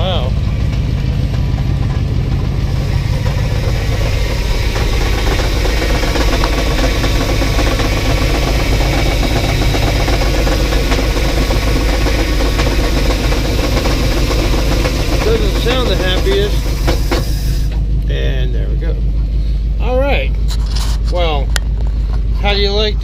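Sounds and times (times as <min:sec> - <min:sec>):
truck engine running unevenly: 0:00.0 - 0:23.0.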